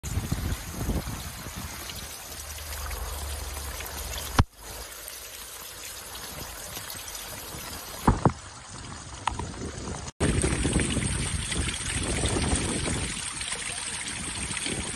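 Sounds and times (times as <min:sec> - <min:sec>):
water trickling: 0:00.0 - 0:14.9.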